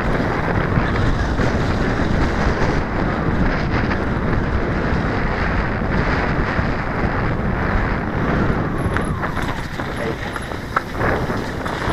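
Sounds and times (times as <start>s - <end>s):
mountain bike rolling on dirt: 0.0s - 11.9s
wind buffeting microphone: 0.0s - 11.9s.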